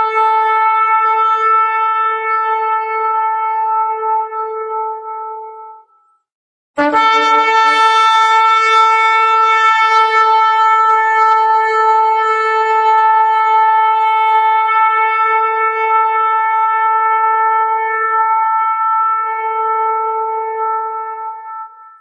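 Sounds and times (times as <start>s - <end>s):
shofar blast: 0.0s - 5.6s, 6.8s - 22.0s.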